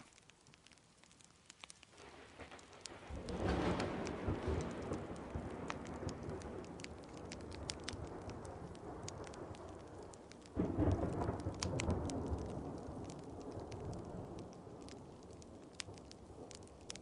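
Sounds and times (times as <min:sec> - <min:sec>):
steady rain: 0:00.0 - 0:17.0
wood fire crackling: 0:00.0 - 0:17.0
thunder rolling: 0:02.0 - 0:16.9.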